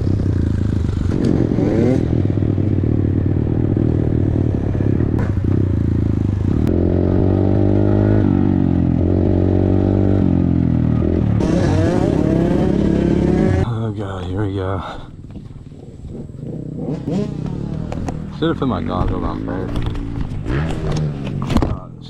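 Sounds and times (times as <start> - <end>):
dirt bike engine revving: 0.0 - 13.8, 15.8 - 21.6.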